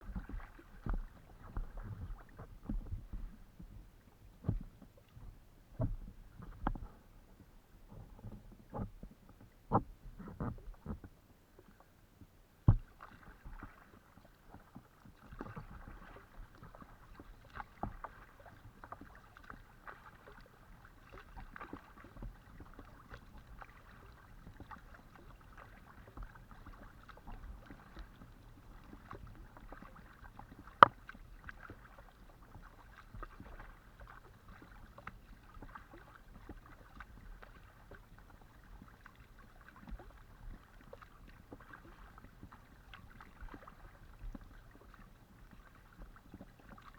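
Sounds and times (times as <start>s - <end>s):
paddle splashing in water: 0.0s - 11.9s, 12.6s - 46.9s.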